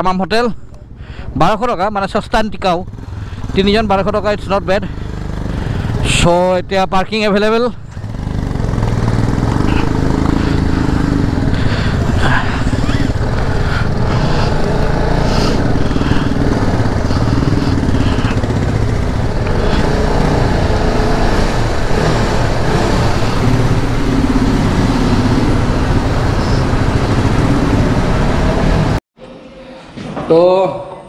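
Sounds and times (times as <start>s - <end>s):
motorcycle engine running: 2.8s - 6.6s, 7.4s - 29.0s.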